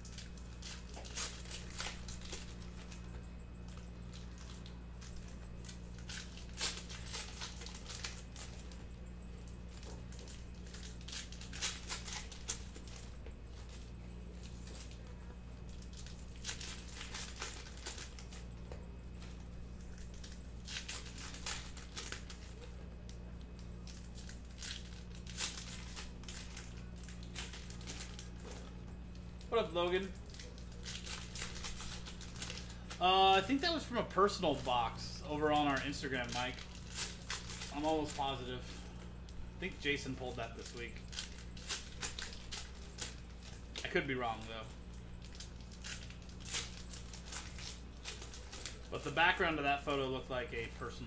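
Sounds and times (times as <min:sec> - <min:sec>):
card packs being torn open: 0:00.0 - 0:03.0, 0:03.7 - 0:08.8, 0:09.7 - 0:18.5, 0:19.8 - 0:22.7, 0:23.5 - 0:28.7, 0:29.4 - 0:38.7, 0:39.6 - 0:44.6, 0:45.2 - 0:50.8
steady low hum: 0:00.0 - 0:51.0
wrappers crinkling: 0:00.0 - 0:51.0.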